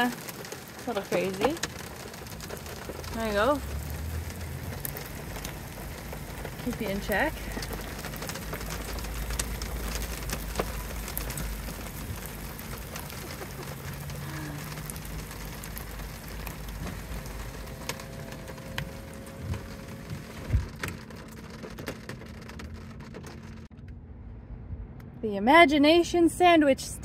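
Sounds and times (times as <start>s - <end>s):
rain on pavement and car: 0.0s - 23.7s.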